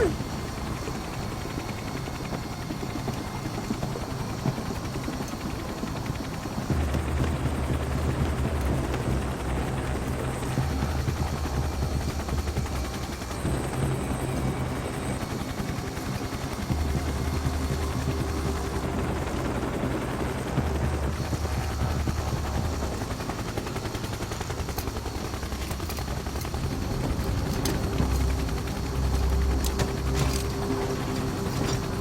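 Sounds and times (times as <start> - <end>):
helicopter rotor chopping: 0.0 - 32.0.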